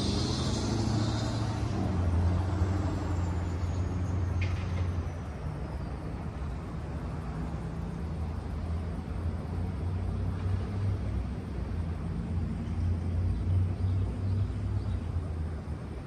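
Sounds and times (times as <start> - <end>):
diesel locomotive rumble: 0.0 - 16.0.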